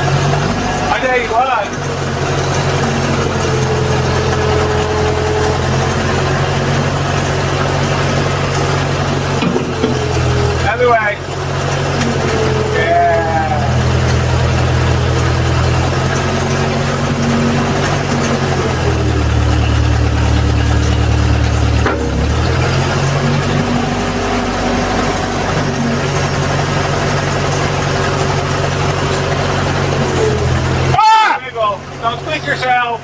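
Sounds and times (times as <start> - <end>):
backhoe engine running: 0.0 - 33.0.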